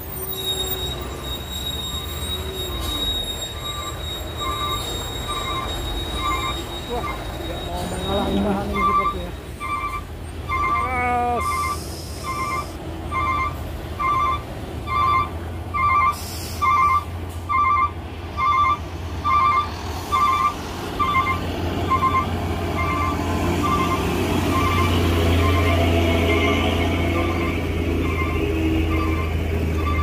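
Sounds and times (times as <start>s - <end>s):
diesel engine drone: 0.0s - 30.0s
truck reversing alarm beeping: 0.0s - 30.0s.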